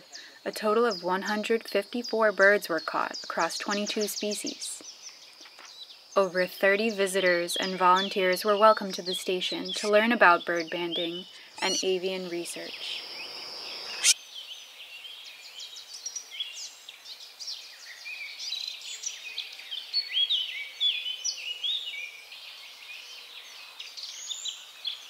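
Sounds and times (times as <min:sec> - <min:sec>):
songbirds chirping and trilling: 0:00.0 - 0:25.0.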